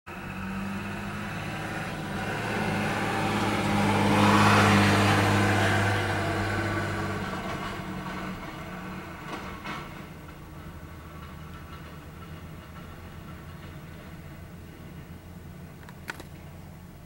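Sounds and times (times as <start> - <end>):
tractor engine droning under load: 0.1 - 17.0.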